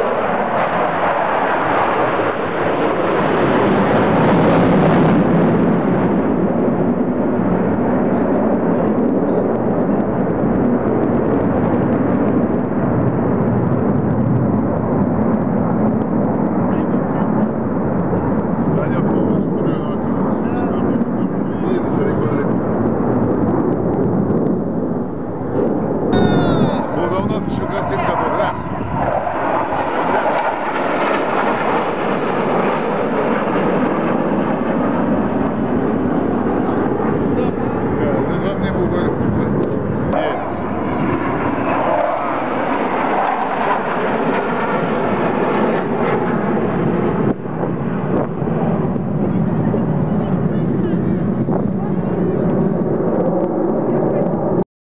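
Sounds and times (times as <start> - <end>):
jet aircraft flying over: 0.0 - 54.6.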